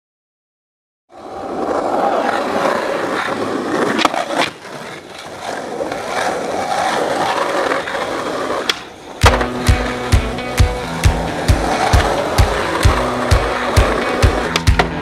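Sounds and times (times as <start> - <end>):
skateboard wheels rolling on asphalt: 1.1 - 15.0
skateboard clacks: 1.2 - 15.0.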